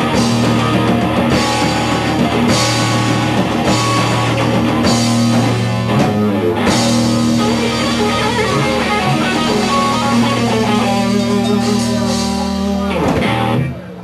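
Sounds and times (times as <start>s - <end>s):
electric guitars holding chord: 0.0s - 14.0s
lead guitar: 0.0s - 14.0s.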